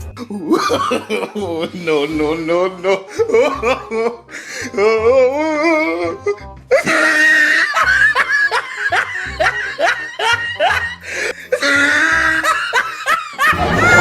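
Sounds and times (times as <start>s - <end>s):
music: 0.0s - 14.0s
person laughing: 0.2s - 14.0s.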